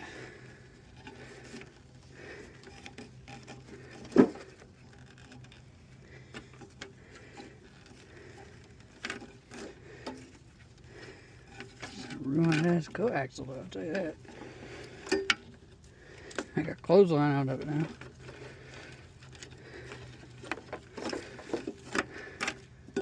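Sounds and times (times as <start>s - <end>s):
cable rubbing and tapping: 0.7s - 23.0s.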